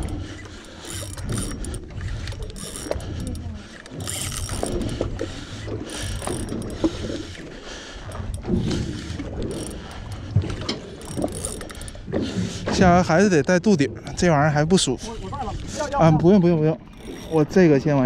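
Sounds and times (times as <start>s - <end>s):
fishing reel gears whirring: 0.0s - 13.6s, 16.6s - 18.0s.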